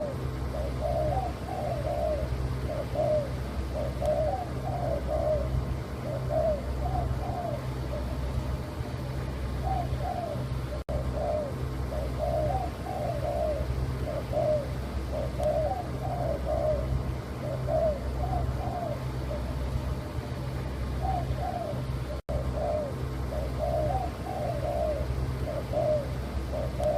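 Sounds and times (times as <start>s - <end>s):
dove cooing: 0.0s - 26.9s
steady low hum: 0.0s - 26.9s.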